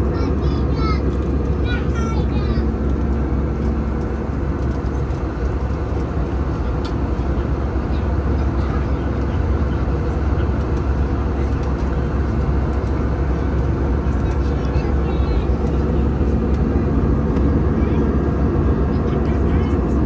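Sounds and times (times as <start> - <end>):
airliner cabin engine drone: 0.0 - 20.0.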